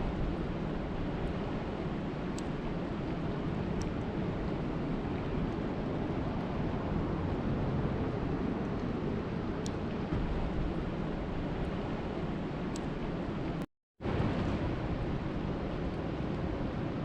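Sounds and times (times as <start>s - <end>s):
water rushing at lake: 0.0s - 17.0s.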